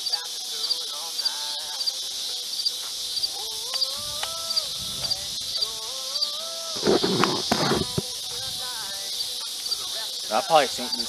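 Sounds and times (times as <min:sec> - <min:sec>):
insect buzzing in double chirps: 0:00.0 - 0:11.0.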